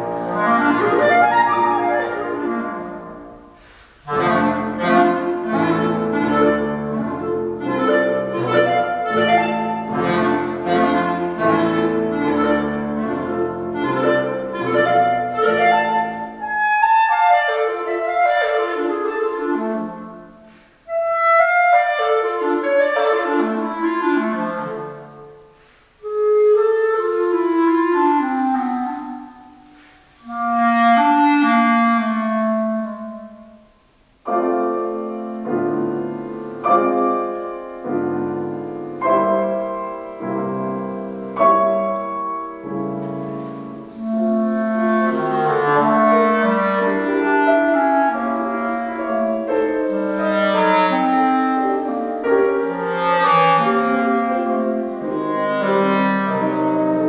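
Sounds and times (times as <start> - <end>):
clarinet: 0.0 - 57.0
piano chords: 0.0 - 57.0.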